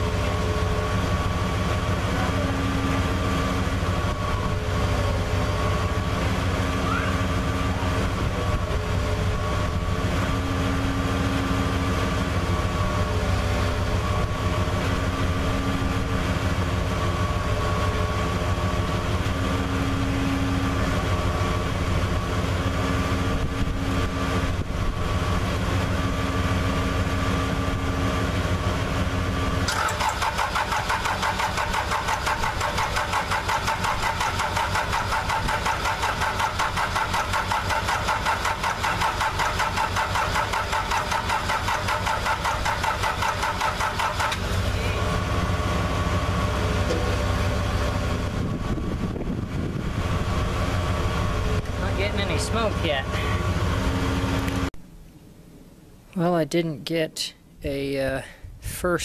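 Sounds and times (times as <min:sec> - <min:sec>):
diesel tractor engine: 0:00.0 - 0:57.0.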